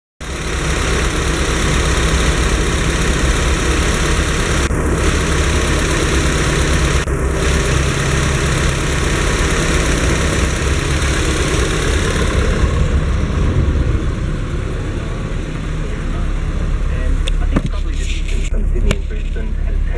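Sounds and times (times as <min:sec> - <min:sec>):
car engine idling: 0:00.2 - 0:19.9.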